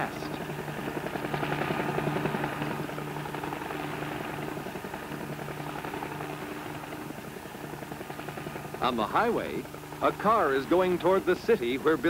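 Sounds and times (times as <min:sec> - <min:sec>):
helicopter engine and rotor humming: 0:00.0 - 0:12.0.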